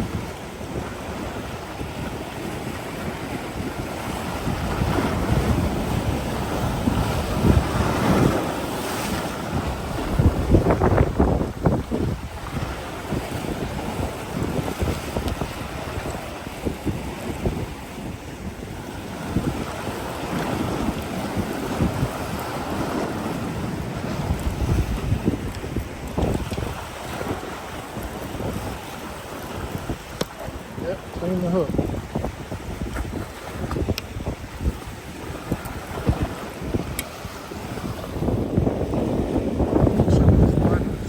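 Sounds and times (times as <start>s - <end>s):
gusty wind buffeting microphone: 0.0s - 41.0s.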